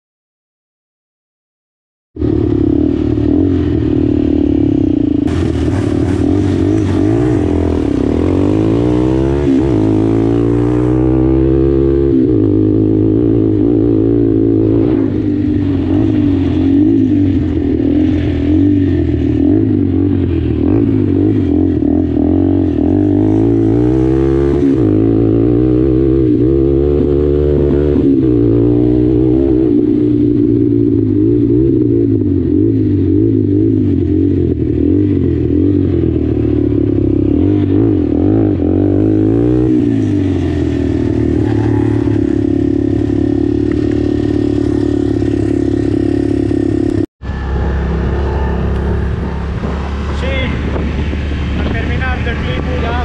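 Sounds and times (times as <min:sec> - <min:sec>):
quad bike engine revving: 0:02.2 - 0:53.0.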